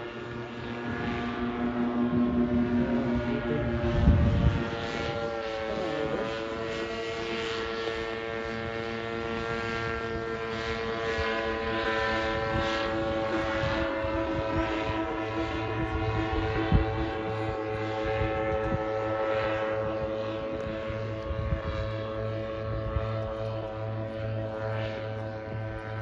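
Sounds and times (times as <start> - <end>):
paramotor engine droning: 0.0 - 26.0.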